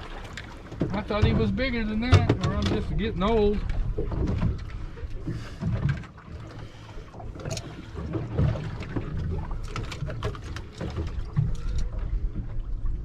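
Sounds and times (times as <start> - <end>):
water sloshing against boat hull: 0.0 - 13.0.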